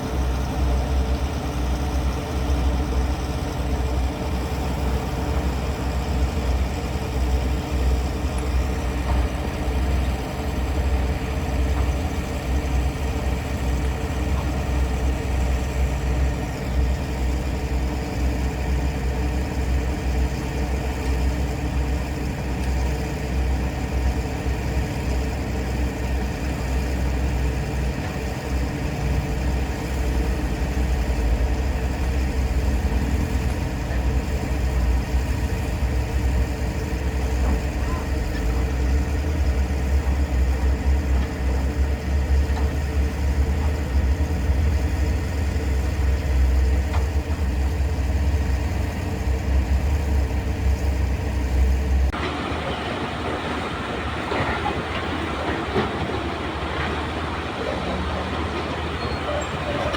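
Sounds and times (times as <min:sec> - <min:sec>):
heavy machine engine rumbling: 0:00.0 - 0:59.9.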